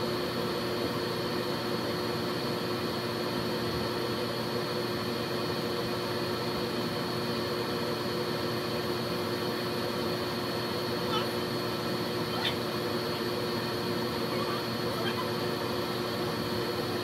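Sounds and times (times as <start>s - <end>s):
laser engraver whirring: 0.0s - 17.0s.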